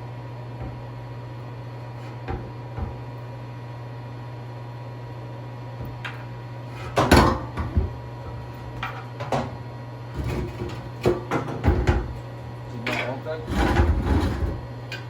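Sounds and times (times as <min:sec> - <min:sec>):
heater humming: 0:00.0 - 0:15.0.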